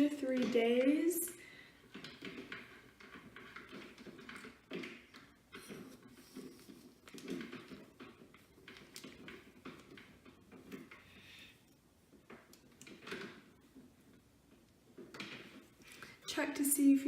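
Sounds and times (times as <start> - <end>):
curling iron tapping: 0.0 - 17.0.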